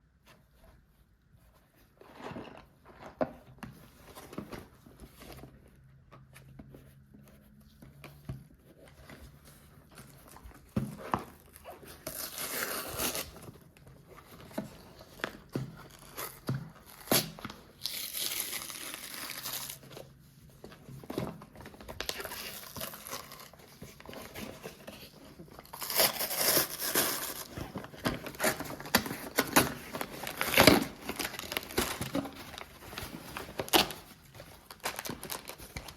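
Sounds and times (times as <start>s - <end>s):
plastic and paper crinkling: 1.4s - 35.9s.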